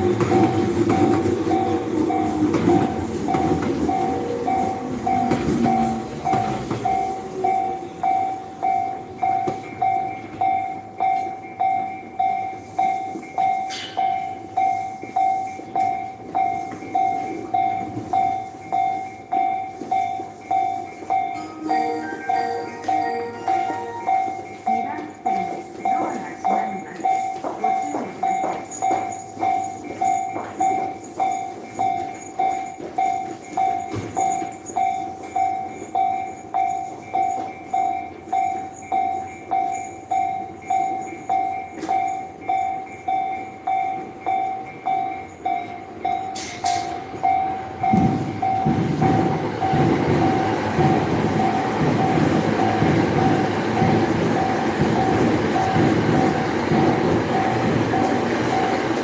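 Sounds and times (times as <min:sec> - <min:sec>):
train wheels clattering over rail joints: 0:00.0 - 0:22.2, 0:24.7 - 0:59.0
level-crossing alarm ringing: 0:00.0 - 0:59.0.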